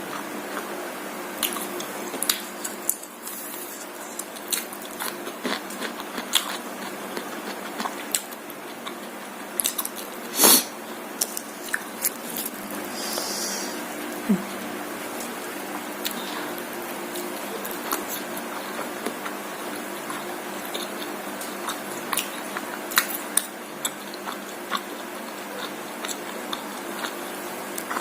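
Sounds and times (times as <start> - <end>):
biting and chewing: 1.4 - 10.2, 11.2 - 12.9, 15.7 - 28.0.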